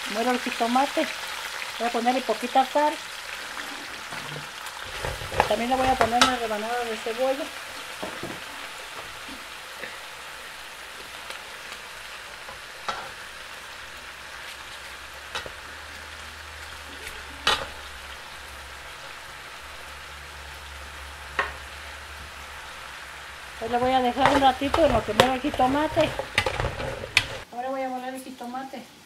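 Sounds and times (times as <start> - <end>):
vegetables sizzling in oil: 0.0 - 28.8.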